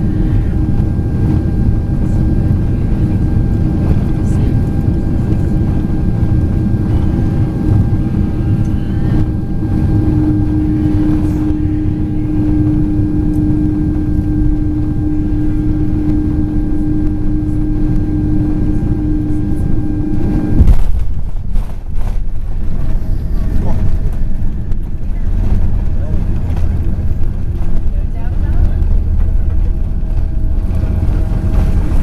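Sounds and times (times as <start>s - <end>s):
airplane cabin engine rumble: 0.0s - 32.0s
constant droning hum: 0.0s - 32.0s.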